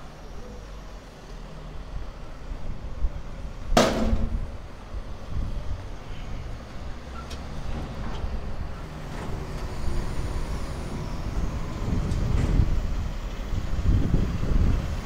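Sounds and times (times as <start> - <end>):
passing street traffic: 0.0 - 15.0
truck engine rumbling: 0.0 - 15.0.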